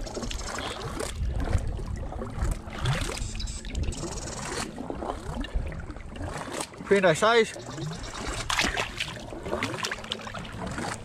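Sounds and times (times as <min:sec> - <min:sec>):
small splashes: 0:00.0 - 0:11.0
water sloshing around wading person: 0:00.0 - 0:11.0.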